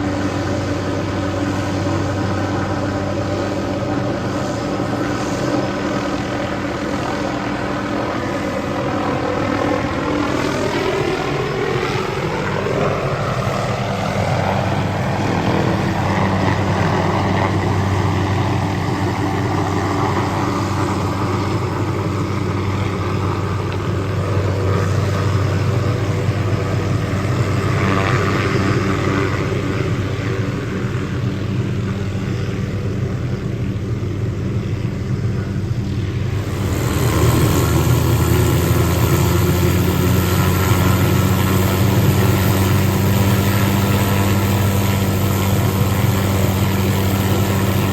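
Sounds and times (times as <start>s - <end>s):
helicopter rotor and turbine drone: 0.0s - 47.9s.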